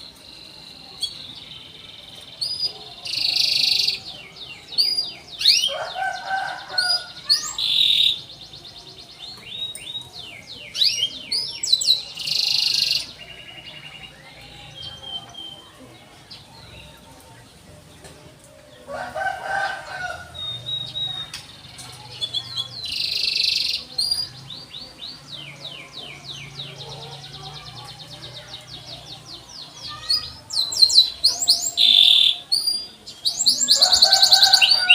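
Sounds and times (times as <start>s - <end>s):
canary singing: 0.0s - 17.1s, 18.9s - 34.9s.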